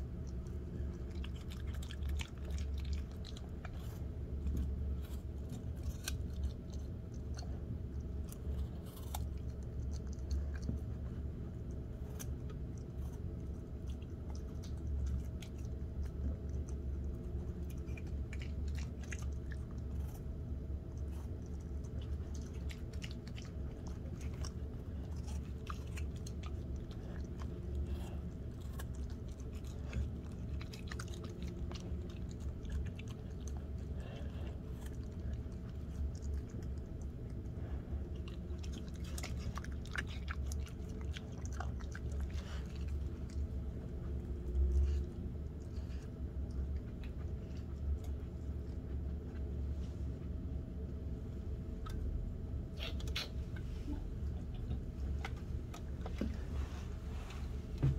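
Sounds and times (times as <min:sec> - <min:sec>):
dog crunching apple: 0:00.0 - 0:49.5
low hum: 0:00.0 - 0:57.9.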